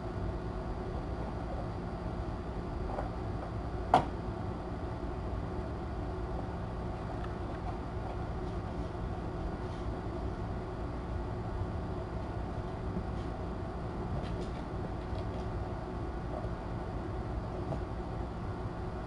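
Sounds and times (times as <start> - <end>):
low background hum and rumble: 0.0 - 19.0.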